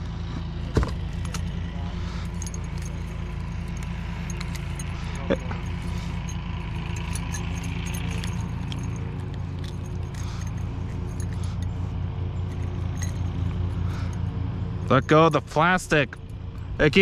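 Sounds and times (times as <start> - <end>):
low hum: 0.0 - 17.0
metallic clinks and jingling: 1.0 - 17.0.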